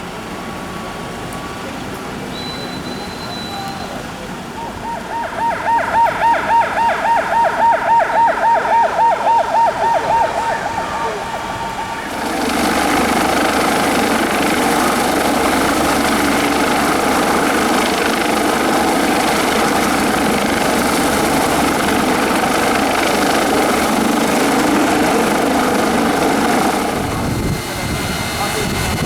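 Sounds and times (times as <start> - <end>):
loud steady engine noise: 0.0 - 29.0.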